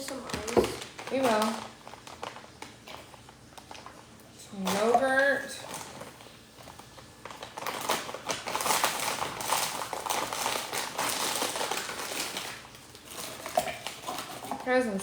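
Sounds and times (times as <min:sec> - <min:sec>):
packaging crinkling and clicking: 0:00.0 - 0:14.6.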